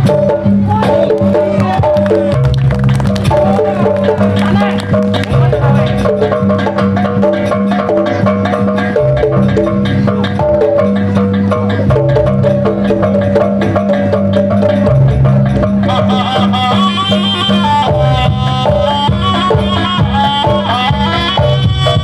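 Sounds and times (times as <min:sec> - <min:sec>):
fast drum strokes: 0:00.0 - 0:22.0
tuned percussion melody: 0:00.0 - 0:22.0.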